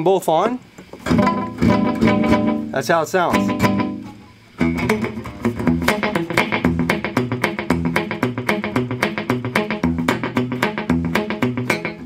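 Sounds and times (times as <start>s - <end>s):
fingerpicked muted electric guitar: 0.9s - 12.0s.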